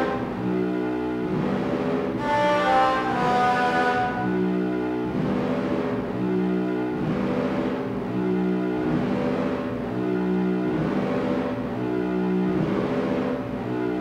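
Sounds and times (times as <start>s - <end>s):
buzzy synthesizer chords: 0.0s - 14.0s.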